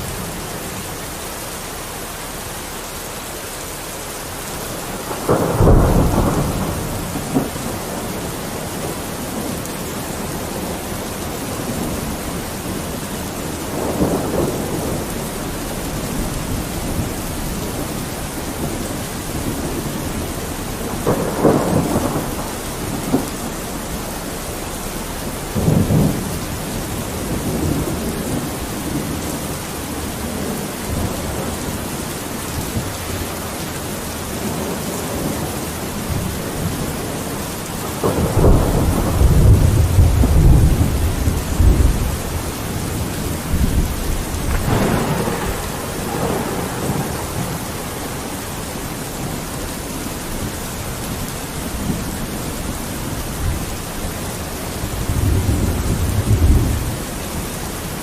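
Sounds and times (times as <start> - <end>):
rain on a window: 0.0 - 58.0
thunder rolling: 4.5 - 33.5, 34.3 - 57.1.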